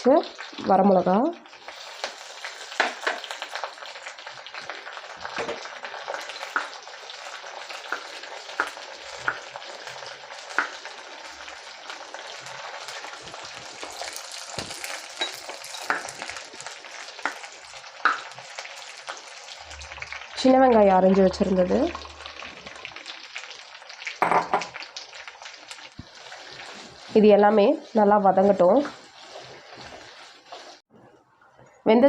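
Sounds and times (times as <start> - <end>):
spices sizzling in hot oil: 0.0 - 30.9.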